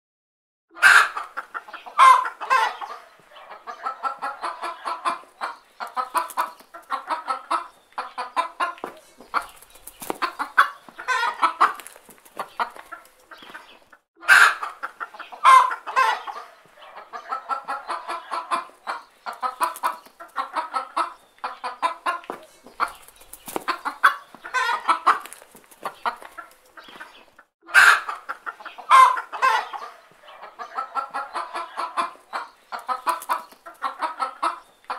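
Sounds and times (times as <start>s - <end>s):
hen clucking: 0.7s - 34.9s.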